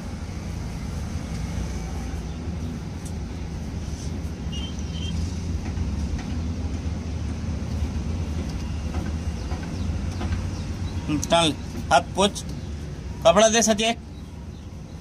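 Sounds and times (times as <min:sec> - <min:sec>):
low rumble of outdoor background: 0:00.0 - 0:15.0.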